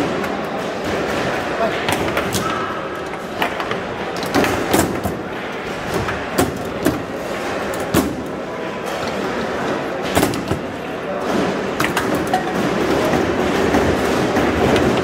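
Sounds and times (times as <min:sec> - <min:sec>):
foosball ball clacking: 0:00.0 - 0:08.3, 0:10.0 - 0:15.0
murmur of busy hall: 0:00.0 - 0:15.0.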